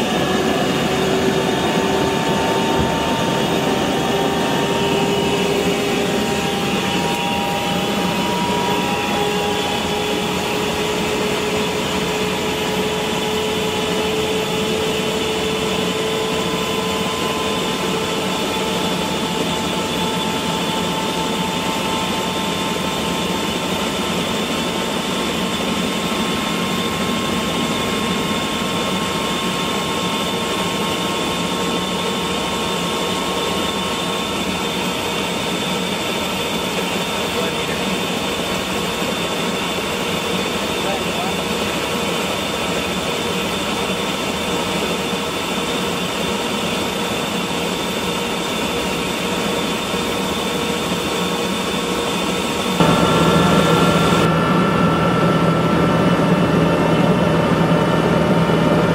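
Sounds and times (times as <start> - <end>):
helicopter engine and rotor whine: 0.0 - 58.9.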